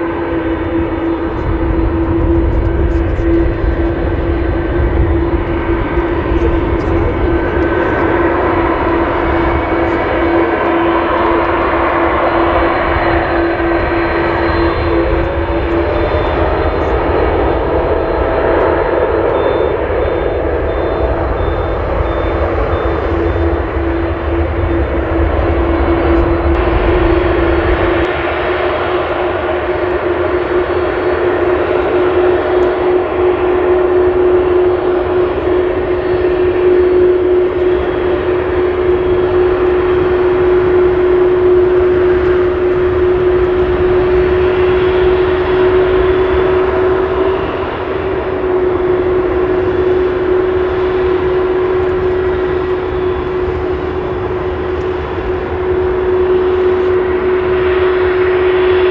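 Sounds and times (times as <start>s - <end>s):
jet engines whining: 0.0s - 58.9s.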